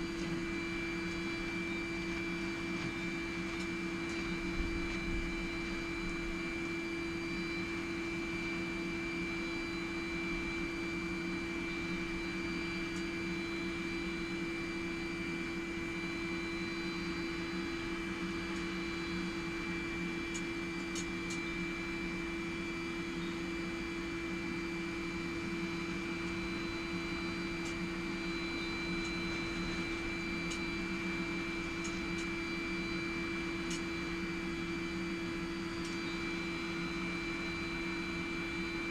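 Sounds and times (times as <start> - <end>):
forge humming: 0.0 - 38.9.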